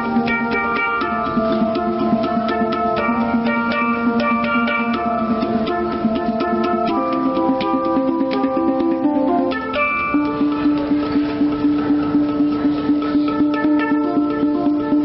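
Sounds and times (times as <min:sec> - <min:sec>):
hang drum ringing metallic notes: 0:00.0 - 0:15.0.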